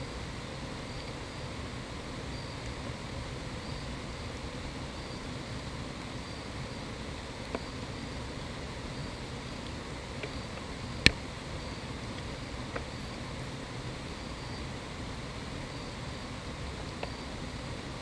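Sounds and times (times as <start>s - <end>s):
faint insects chirping: 0.0s - 18.0s
outdoor background hiss: 0.0s - 18.0s.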